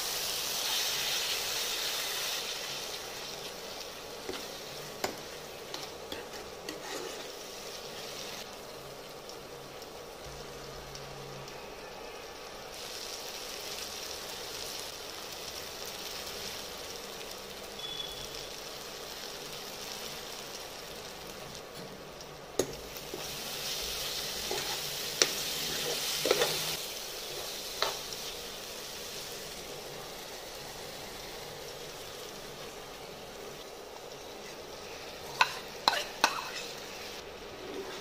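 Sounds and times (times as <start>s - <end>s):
masala sizzling in a pan: 0.0s - 38.0s.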